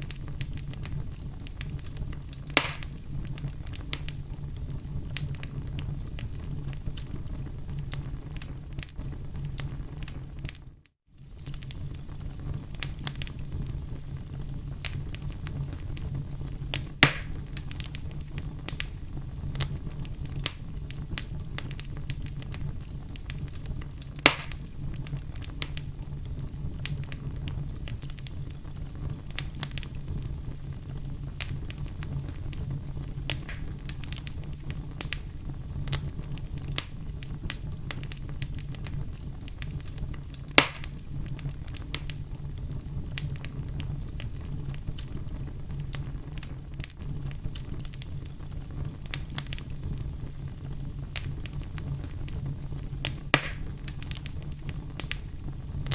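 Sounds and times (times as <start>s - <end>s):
sharp fire pops: 0.0s - 10.6s, 11.2s - 55.9s
fire crackling: 0.0s - 55.9s
fire flames rumbling: 0.0s - 55.9s.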